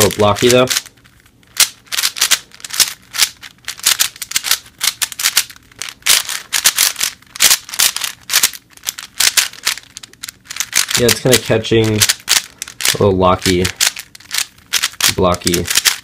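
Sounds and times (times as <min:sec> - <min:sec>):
puzzle cube plastic clicks: 0:00.0 - 0:16.0.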